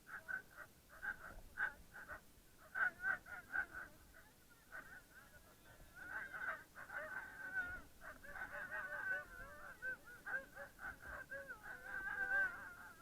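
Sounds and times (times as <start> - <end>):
animals making high calls: 0.1 - 13.0.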